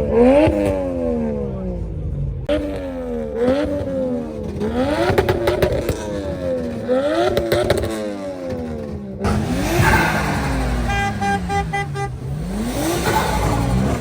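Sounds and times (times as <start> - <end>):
car engine revving: 0.0 - 14.0
exhaust crackles and pops: 2.1 - 14.0.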